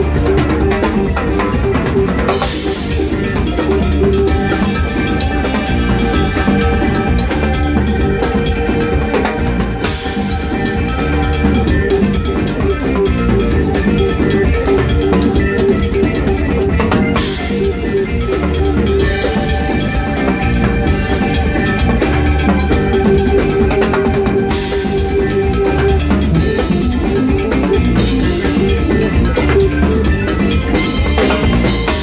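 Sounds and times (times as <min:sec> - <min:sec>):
drum kit and timbales beating: 0:00.0 - 0:32.0
rock band playing: 0:00.0 - 0:32.0.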